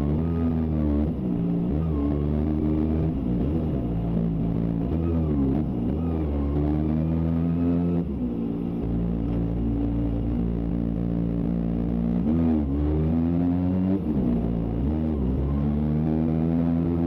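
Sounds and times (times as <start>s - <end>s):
motorcycle engine running hard: 0.0s - 17.0s.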